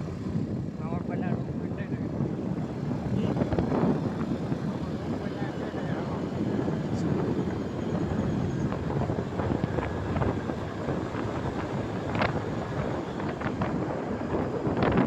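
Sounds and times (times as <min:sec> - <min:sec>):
road and traffic noise: 0:00.0 - 0:15.0
wind over microphone: 0:00.0 - 0:15.0.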